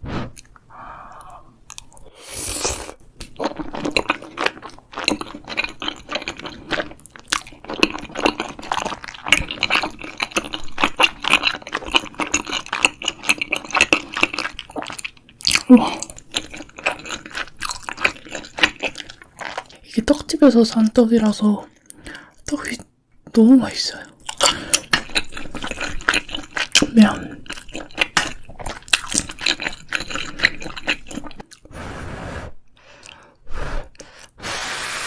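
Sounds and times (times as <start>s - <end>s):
close chewing and mouth clicks: 0.4s - 20.3s, 24.2s - 31.7s, 32.8s - 34.3s.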